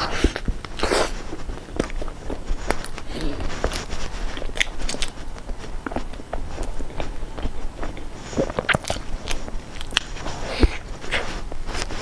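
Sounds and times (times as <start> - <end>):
chewing: 0.0 - 12.0
pastry crackling and crunching: 0.0 - 12.0.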